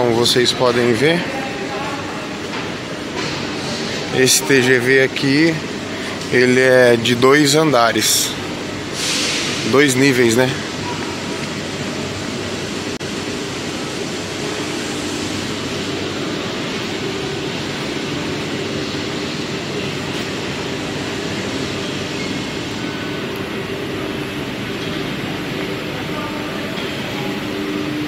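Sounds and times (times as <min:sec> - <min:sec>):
train equipment hum and whir: 0:00.0 - 0:28.0.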